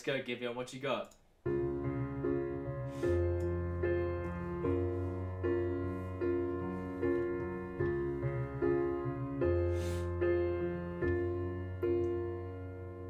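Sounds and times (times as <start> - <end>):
piano chords: 1.4 - 13.0.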